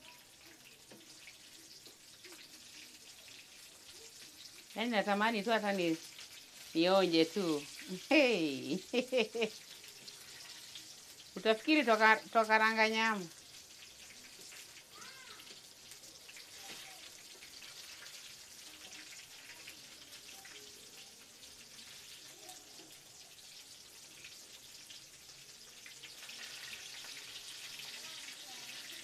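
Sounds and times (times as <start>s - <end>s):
food deep-frying in hot oil: 0.0s - 29.0s.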